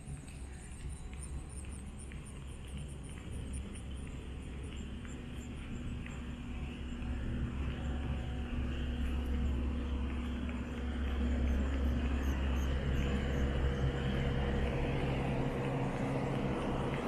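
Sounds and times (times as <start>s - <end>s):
air conditioning hum: 0.0s - 17.0s
deep rumble: 3.2s - 17.0s.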